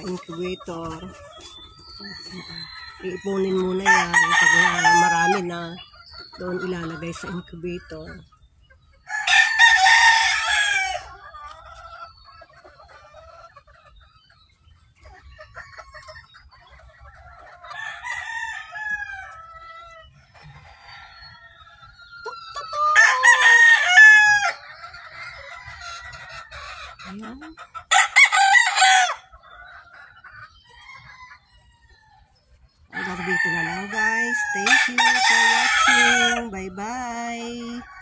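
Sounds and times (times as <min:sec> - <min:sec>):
roosters crowing: 0:00.0 - 0:08.2, 0:09.0 - 0:13.6, 0:17.1 - 0:27.2, 0:27.8 - 0:38.0
hens clucking: 0:00.0 - 0:38.0.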